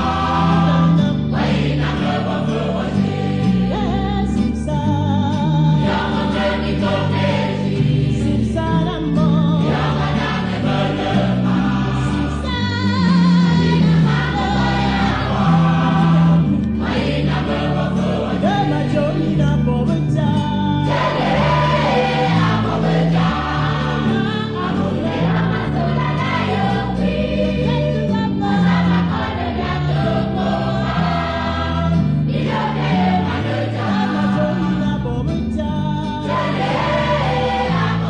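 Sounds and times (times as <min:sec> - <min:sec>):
gospel choir singing: 0:00.0 - 0:04.7, 0:05.3 - 0:38.0
bass line: 0:00.0 - 0:38.0.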